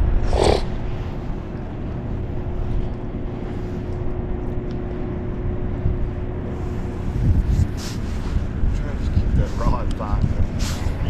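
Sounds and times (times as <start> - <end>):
faint steady hum: 0.0 - 11.0
wind rumbling on microphone: 0.0 - 11.0.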